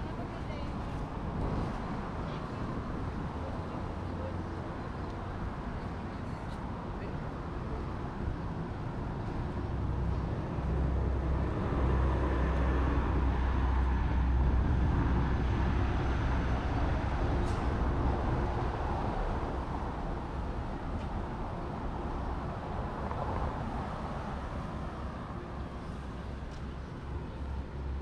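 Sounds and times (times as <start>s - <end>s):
wind rumbling on microphone: 0.0s - 7.4s, 8.0s - 25.4s
road traffic: 0.0s - 28.0s.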